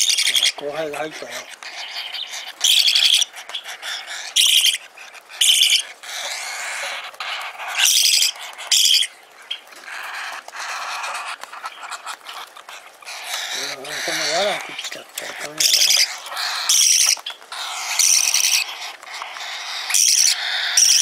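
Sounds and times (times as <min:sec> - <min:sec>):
parakeet chicks begging calls: 0:00.0 - 0:21.0.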